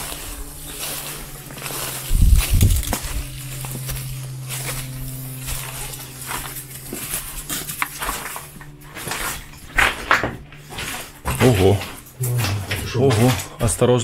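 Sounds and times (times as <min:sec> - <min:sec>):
debris clinking underfoot: 0:00.0 - 0:14.0
footsteps: 0:00.0 - 0:14.0
steady low hum: 0:00.0 - 0:14.0.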